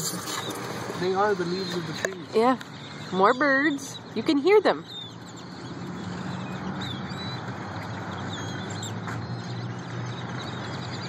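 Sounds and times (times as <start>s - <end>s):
flock of birds chirping: 0.0s - 11.0s.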